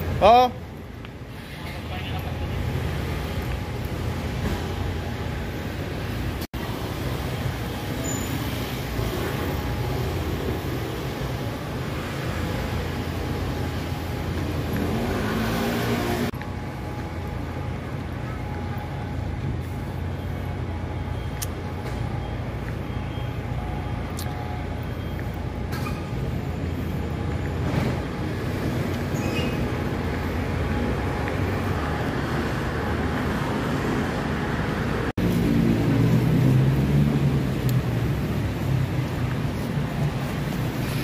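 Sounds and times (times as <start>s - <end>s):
traffic rumble: 0.0s - 41.0s.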